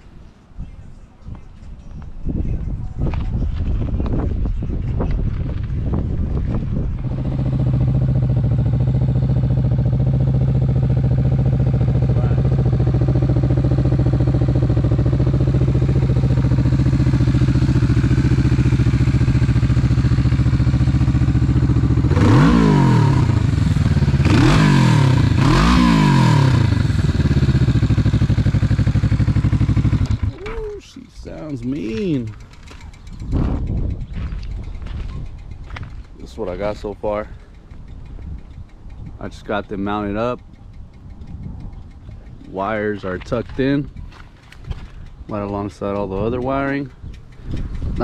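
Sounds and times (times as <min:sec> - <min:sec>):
motorcycle engine idling and revving: 0:02.9 - 0:48.0.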